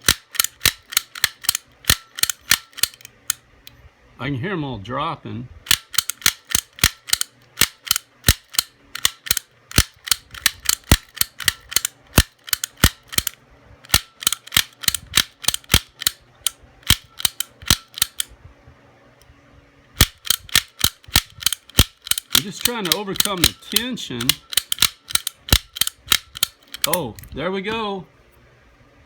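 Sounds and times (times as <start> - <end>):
sharp metallic clicks: 0.0 - 3.4, 5.7 - 18.3, 20.0 - 27.4.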